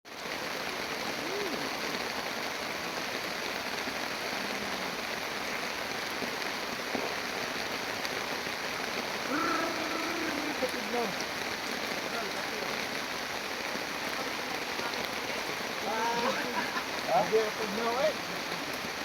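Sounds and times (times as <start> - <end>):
hiss of water: 0.1 - 19.0.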